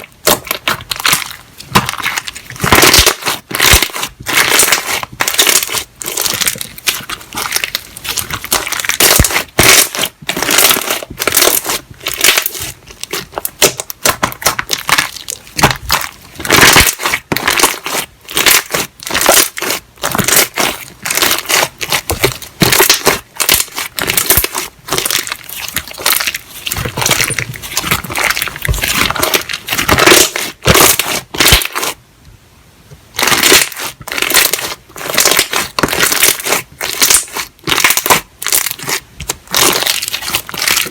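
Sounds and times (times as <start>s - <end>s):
slime crackling and popping: 0.0s - 32.0s, 33.1s - 40.9s.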